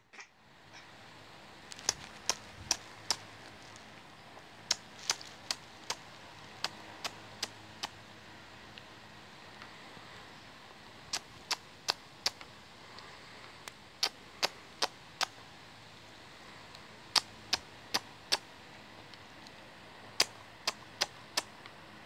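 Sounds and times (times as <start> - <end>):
air conditioner hum and hiss: 0.0 - 22.0.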